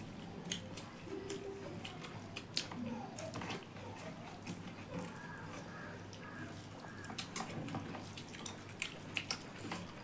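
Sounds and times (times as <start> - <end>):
chewing and smacking: 0.0 - 10.0
fingers mixing rice on plates: 0.0 - 10.0.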